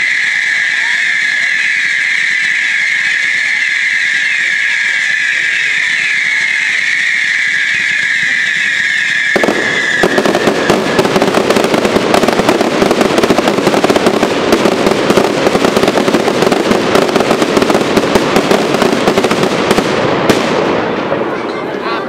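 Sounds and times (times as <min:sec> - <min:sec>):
high firework whistle: 0:00.0 - 0:20.9
dense firework crackle: 0:00.0 - 0:21.8.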